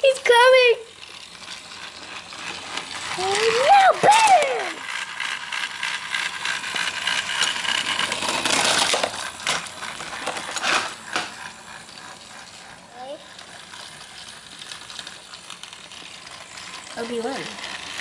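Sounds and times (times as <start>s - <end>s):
toy train motor clattering: 0.0s - 18.0s.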